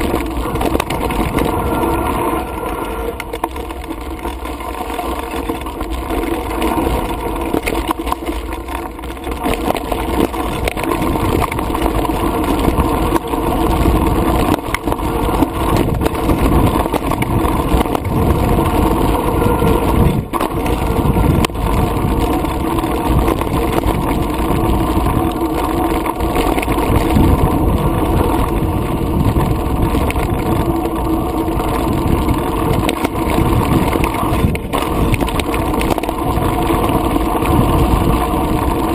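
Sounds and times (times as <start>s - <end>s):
wind rush: 0.0s - 3.6s, 10.5s - 38.9s
bike rattling and knocking: 0.0s - 38.9s
tyres rumbling on dirt: 0.0s - 38.9s.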